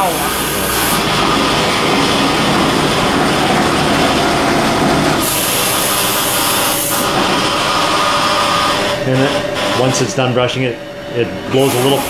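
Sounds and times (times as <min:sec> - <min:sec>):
milking machine brushes whirring: 0:00.0 - 0:12.0.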